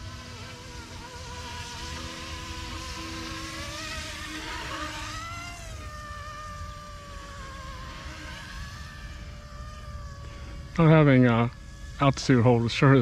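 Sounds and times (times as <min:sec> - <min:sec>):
rc helicopter rotors whining: 0:00.0 - 0:13.0.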